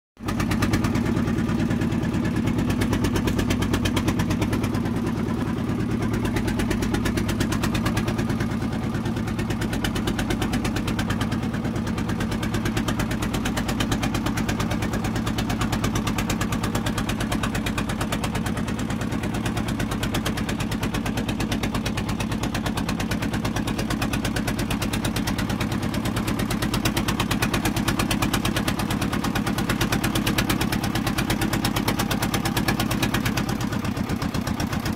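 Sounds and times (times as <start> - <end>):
boat engine chugging: 0.2 - 34.9.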